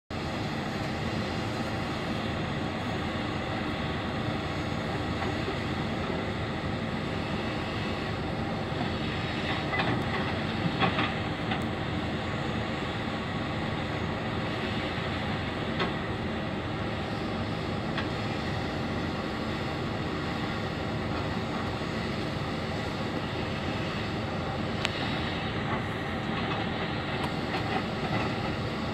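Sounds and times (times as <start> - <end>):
diesel engine running: 0.1 - 28.9.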